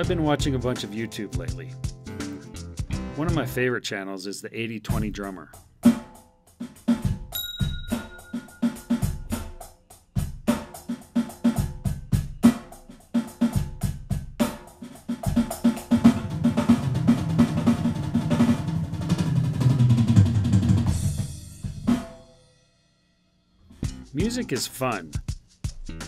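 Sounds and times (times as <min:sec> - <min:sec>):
electronic drum beat: 0:00.0 - 0:03.5, 0:04.9 - 0:22.1, 0:23.8 - 0:26.0.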